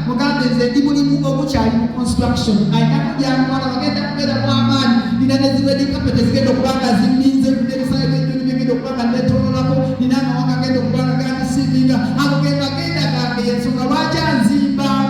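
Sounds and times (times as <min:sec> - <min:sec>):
instrumental bass notes: 0:00.0 - 0:15.0
worship singing: 0:00.0 - 0:15.0.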